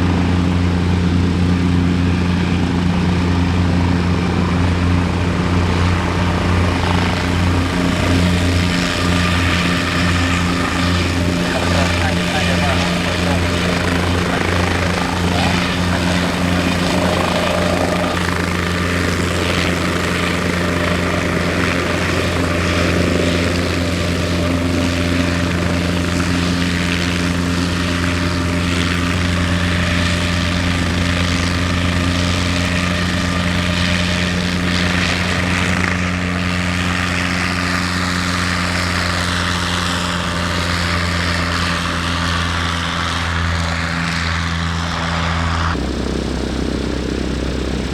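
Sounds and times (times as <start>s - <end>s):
aircraft engine droning: 0.0s - 47.9s.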